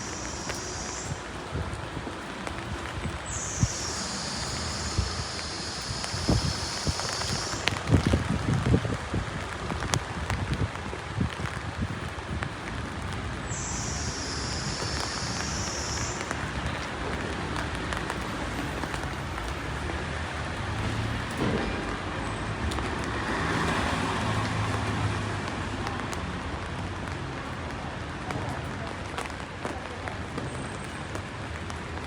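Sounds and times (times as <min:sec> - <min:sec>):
rain falling on street: 0:00.0 - 0:32.0
vehicles passing on wet road: 0:00.0 - 0:32.0.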